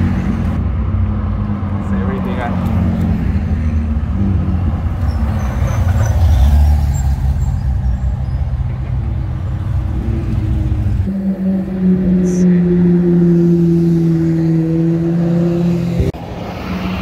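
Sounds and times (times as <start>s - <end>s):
car engines rumbling past: 0.0s - 17.0s.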